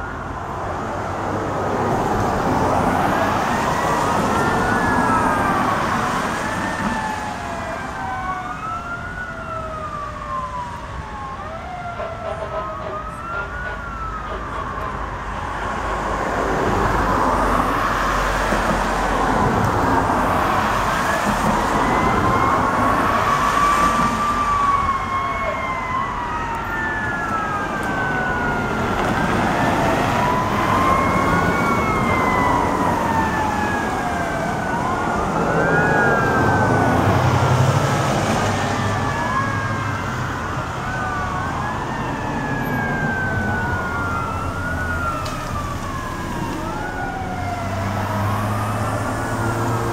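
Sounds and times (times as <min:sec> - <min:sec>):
fire truck sirens wailing: 0:00.0 - 0:49.9.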